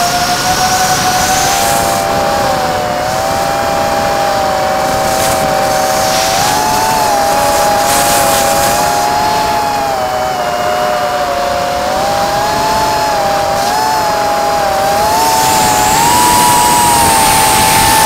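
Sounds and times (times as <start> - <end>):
drone motors whining: 0.0 - 18.0
steady rushing noise: 0.0 - 18.0.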